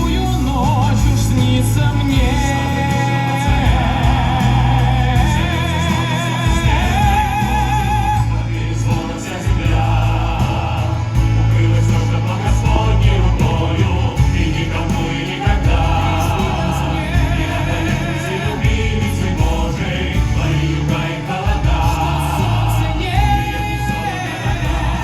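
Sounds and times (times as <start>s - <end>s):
choir singing with accompaniment: 0.0s - 25.0s.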